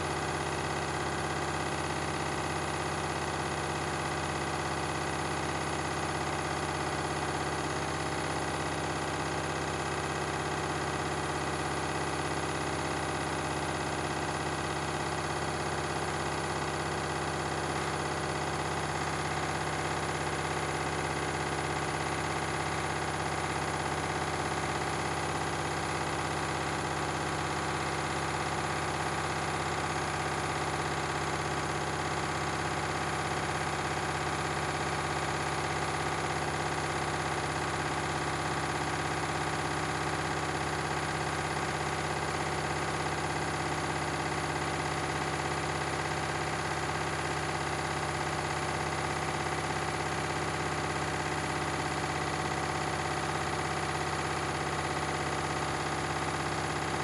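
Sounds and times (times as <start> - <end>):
washing machine spin cycle: 0.0 - 57.0.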